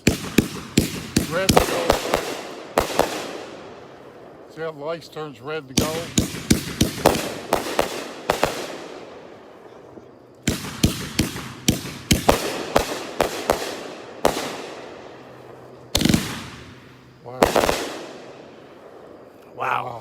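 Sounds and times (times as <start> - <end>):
fireworks cracking overhead: 0.0 - 20.0.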